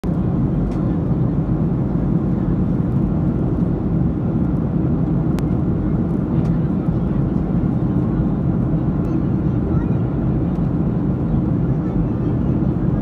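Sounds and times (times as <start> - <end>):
jet airliner cabin roar: 0.0 - 13.0.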